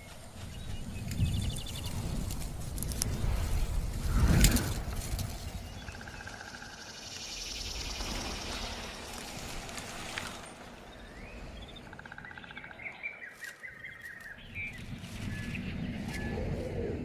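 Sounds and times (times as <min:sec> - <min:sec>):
small birds chirping: 0:00.0 - 0:04.2, 0:04.8 - 0:16.5.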